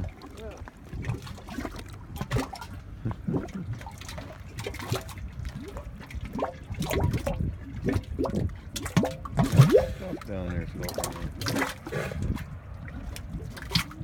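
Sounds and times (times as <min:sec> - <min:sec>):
mud bubbles plopping: 0:00.0 - 0:14.0.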